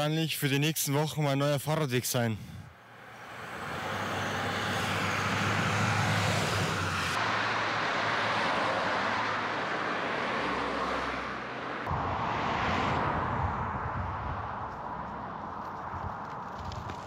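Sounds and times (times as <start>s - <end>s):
cars passing at speed: 2.7s - 17.0s.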